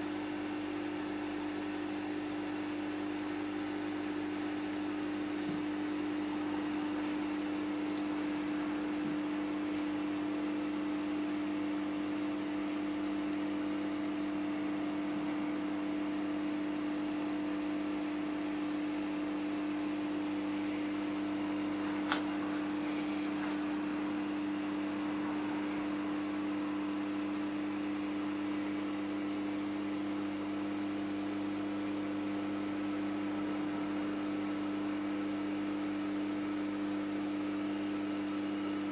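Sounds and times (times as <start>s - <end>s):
aquarium equipment hum and hiss: 0.0s - 38.9s.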